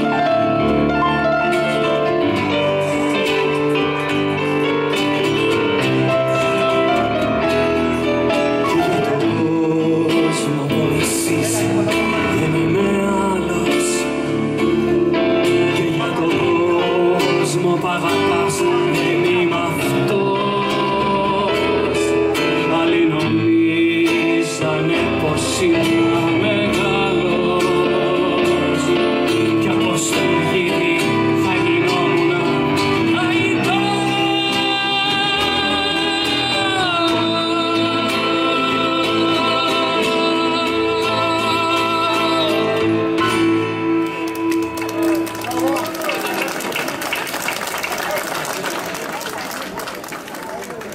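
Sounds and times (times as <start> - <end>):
man singing: 0.0 - 44.4
acoustic guitar: 0.0 - 47.3.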